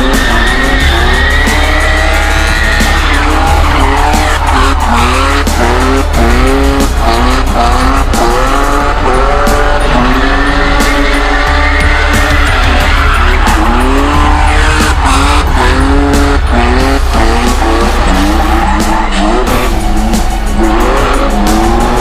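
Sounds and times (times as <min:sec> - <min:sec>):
car engine revving hard: 0:00.0 - 0:22.0
music with heavy bass: 0:00.0 - 0:22.0
tyres squealing: 0:00.0 - 0:22.0.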